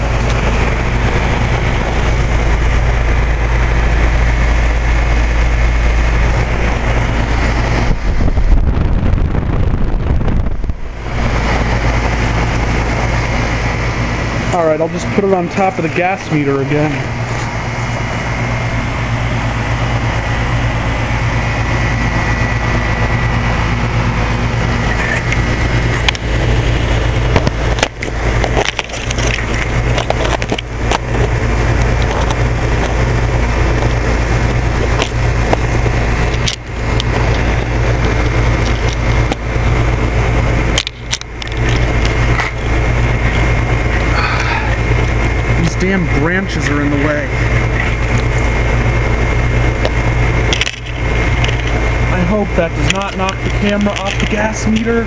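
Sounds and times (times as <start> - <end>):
compressor humming: 0.0 - 55.0
condenser fan rushing: 0.0 - 55.0.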